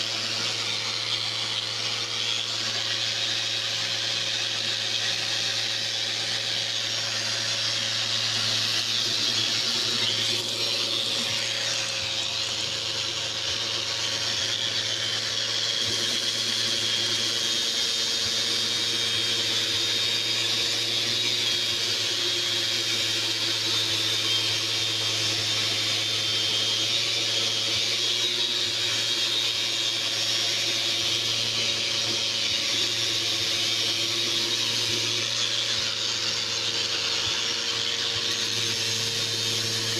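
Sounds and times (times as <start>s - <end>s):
dust extraction vacuum: 0.0s - 39.9s
electric sander on wood: 0.0s - 39.9s.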